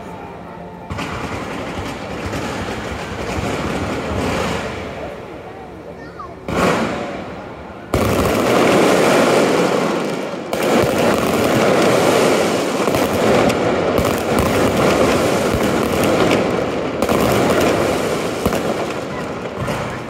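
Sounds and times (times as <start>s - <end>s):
fireworks bursting and crackling: 0.9s - 20.0s.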